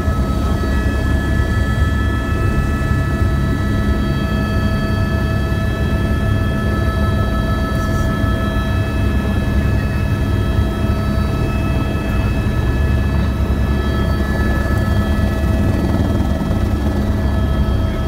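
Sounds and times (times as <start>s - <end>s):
helicopter rotor and engine rumble: 0.0s - 18.0s
high turbine whine: 0.0s - 18.0s.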